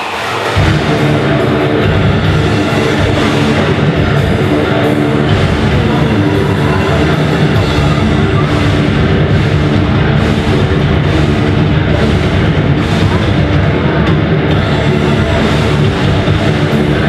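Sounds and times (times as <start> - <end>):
distorted electric guitars: 0.0 - 17.0
pounding drum kit: 0.0 - 17.0
bass guitar: 0.4 - 17.0.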